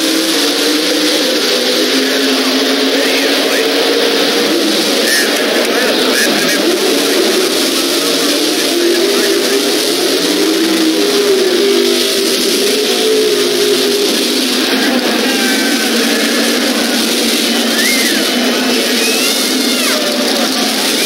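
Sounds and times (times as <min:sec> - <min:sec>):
drag racing car engines: 0:00.0 - 0:21.0.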